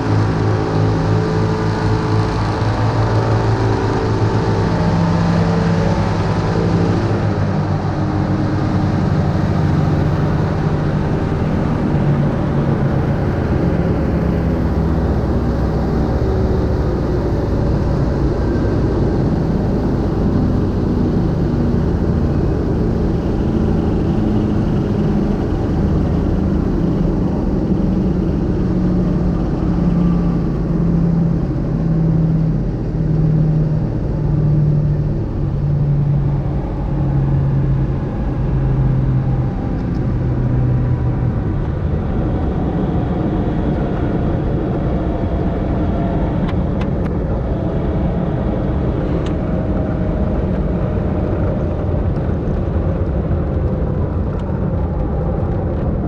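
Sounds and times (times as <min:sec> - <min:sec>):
engine and wind rumble: 0:00.0 - 0:56.0.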